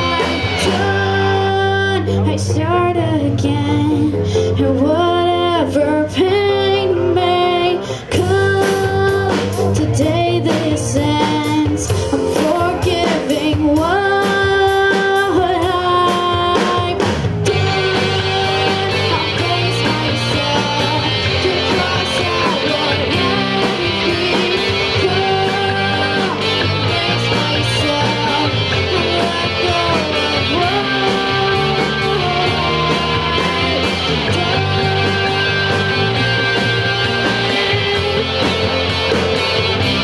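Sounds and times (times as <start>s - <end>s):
bass guitar: 0.0s - 40.0s
drum kit: 0.0s - 40.0s
electric guitars: 0.0s - 40.0s
girl singing lead: 0.0s - 40.0s.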